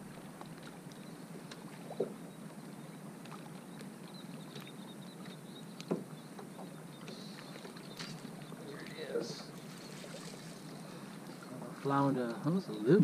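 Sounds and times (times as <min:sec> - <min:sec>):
waves lapping against metal hull: 0:00.0 - 0:13.0.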